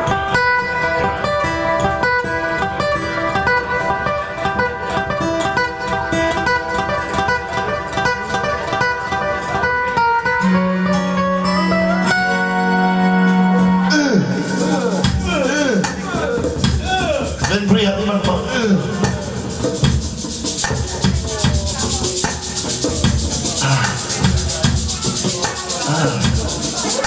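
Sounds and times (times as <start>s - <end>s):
fingerstyle classical guitar: 0.0s - 27.0s.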